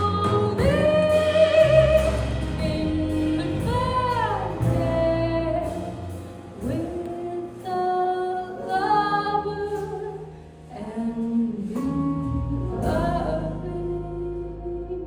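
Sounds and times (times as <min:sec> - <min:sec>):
low bass line: 0:00.0 - 0:15.0
slow jazz ballad: 0:00.0 - 0:15.0.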